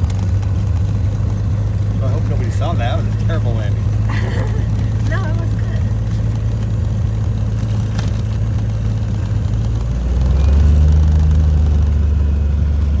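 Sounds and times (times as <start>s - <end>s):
small plane engine and propeller: 0.0s - 13.0s.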